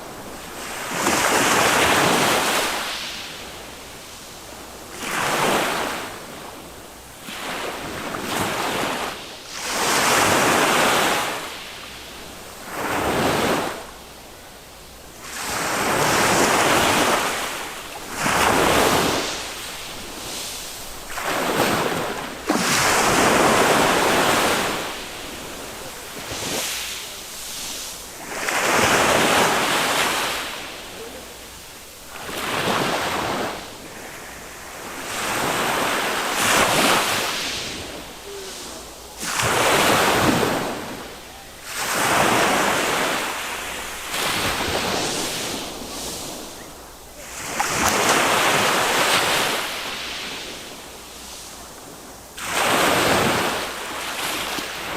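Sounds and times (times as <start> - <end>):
small waves breaking on sand: 0.0 - 54.9.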